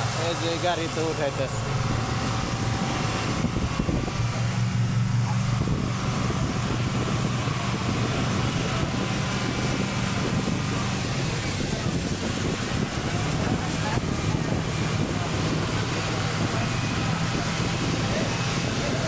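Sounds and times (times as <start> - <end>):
vehicle engine running: 0.0 - 19.0
wind noise on microphone: 0.0 - 19.0.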